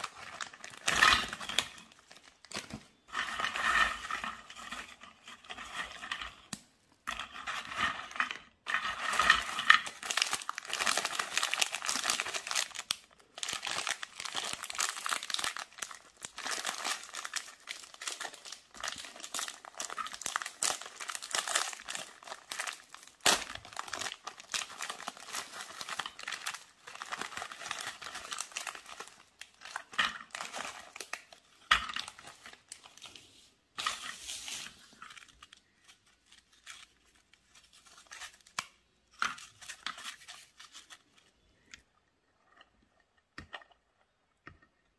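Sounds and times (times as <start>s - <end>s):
plastic wrapper crinkling and tearing: 0.0s - 6.7s, 8.7s - 41.7s.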